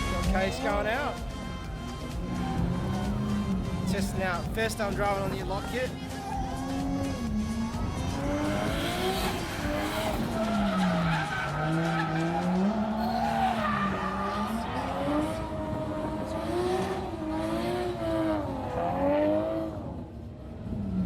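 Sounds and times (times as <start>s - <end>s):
car engine revving: 0.0s - 21.0s
tyres skidding: 0.0s - 21.0s.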